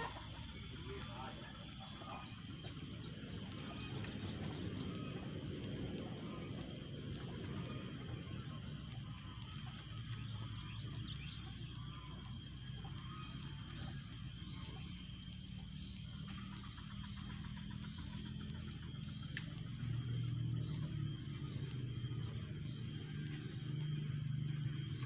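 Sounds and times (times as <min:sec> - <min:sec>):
faint bird chirps: 0:00.0 - 0:25.0
low hum: 0:00.0 - 0:25.0.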